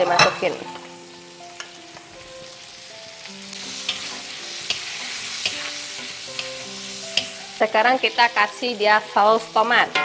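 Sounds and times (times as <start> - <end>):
tomatoes sizzling in a wok: 0.0 - 10.0.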